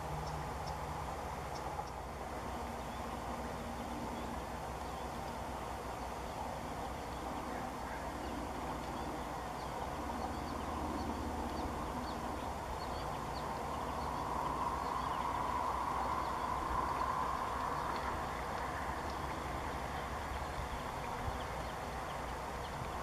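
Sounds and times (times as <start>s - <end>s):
low rumble with hum: 0.0s - 23.0s.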